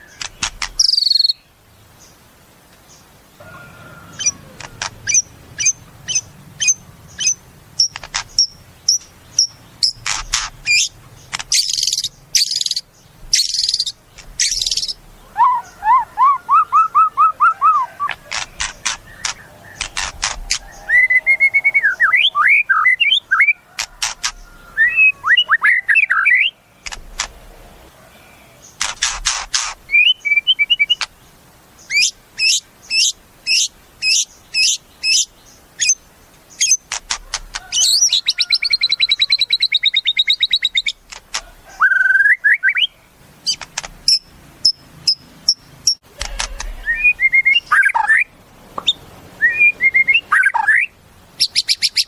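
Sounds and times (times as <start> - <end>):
songbird singing: 0.0 - 52.0.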